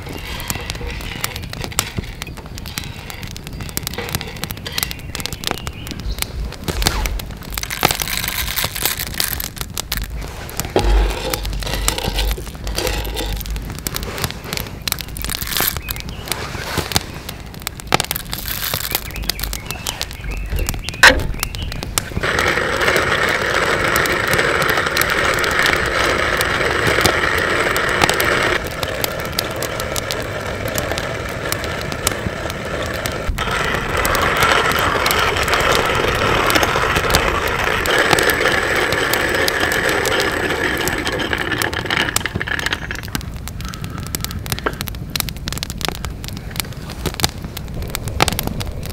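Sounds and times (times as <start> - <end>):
hand coffee mill grinding: 0.0 - 44.8
coffee beans cracking: 0.0 - 48.9.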